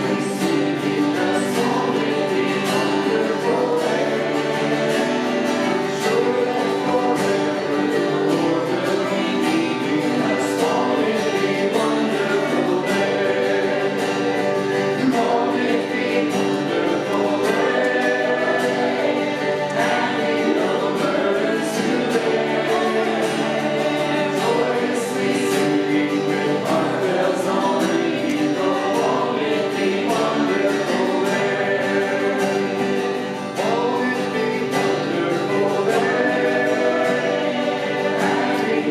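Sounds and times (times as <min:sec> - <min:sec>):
instrumental accompaniment: 0:00.0 - 0:38.9
voices singing a hymn: 0:00.0 - 0:38.9.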